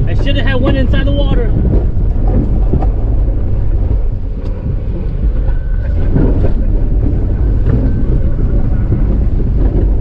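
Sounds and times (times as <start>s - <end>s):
vehicle engine rumble from cab: 0.0s - 10.0s.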